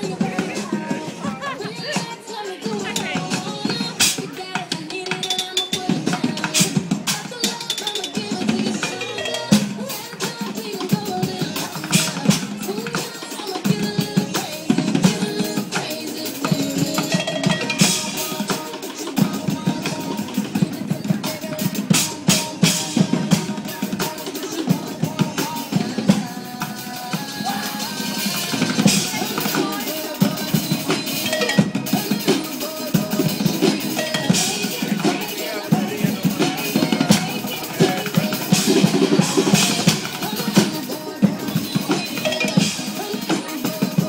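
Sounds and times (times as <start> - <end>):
fast drum kit beats: 0.0 - 44.0.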